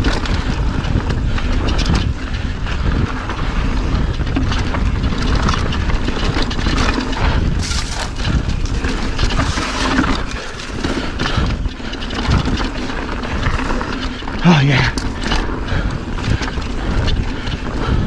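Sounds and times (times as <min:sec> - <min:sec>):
bike knocks and rattles: 0:00.0 - 0:18.0
bike tyres rolling over stones: 0:00.0 - 0:18.0
wind rumble on microphone: 0:00.0 - 0:18.0.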